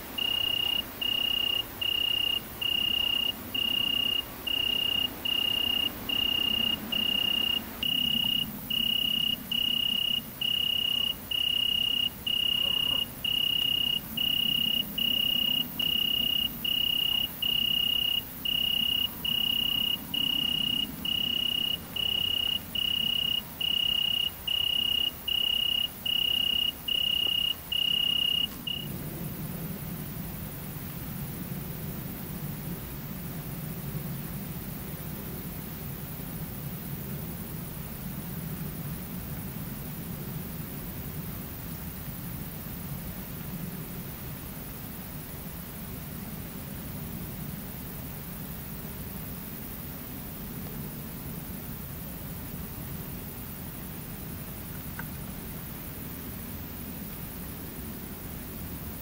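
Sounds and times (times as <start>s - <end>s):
faint low rumble: 0.0s - 59.0s
insect chirping: 0.0s - 59.0s.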